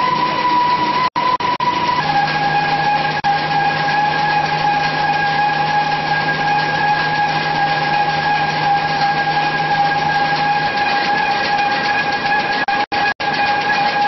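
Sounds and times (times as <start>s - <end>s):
high machine whine: 0.0s - 14.0s
machine running: 0.0s - 14.0s.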